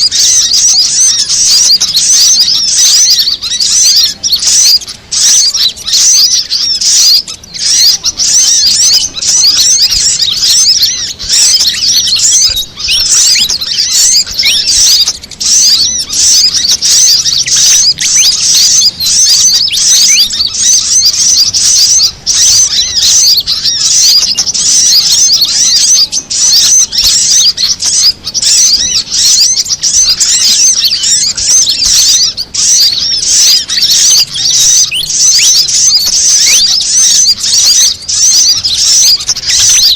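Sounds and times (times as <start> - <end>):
small birds twittering: 0.0 - 39.9.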